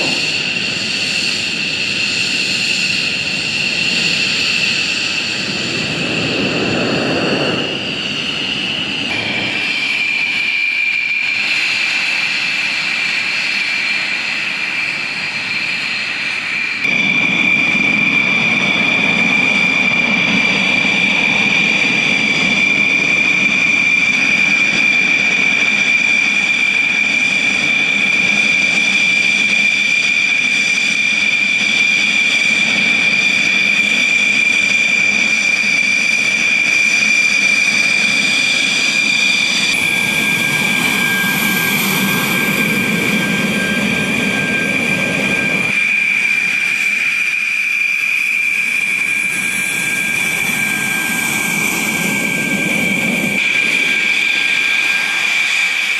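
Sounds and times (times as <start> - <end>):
jet engine whine and rumble: 0.0 - 55.9.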